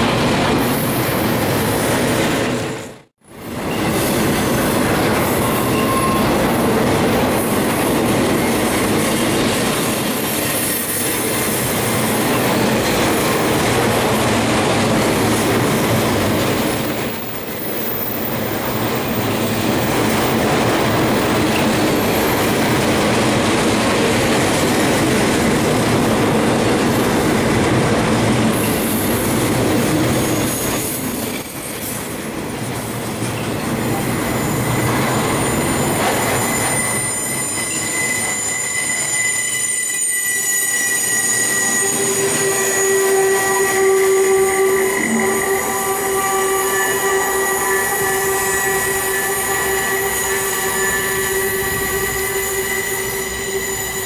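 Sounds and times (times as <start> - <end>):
freight train wheels rattling on rail: 0.0 - 54.0.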